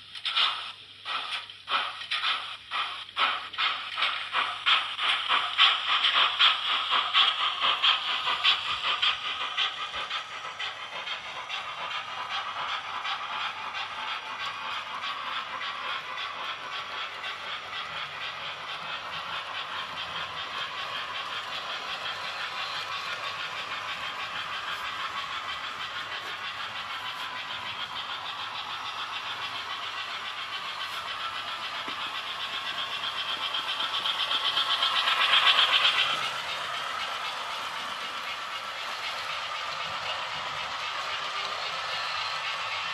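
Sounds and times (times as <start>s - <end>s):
model train wheels clicking: 0.0s - 42.9s.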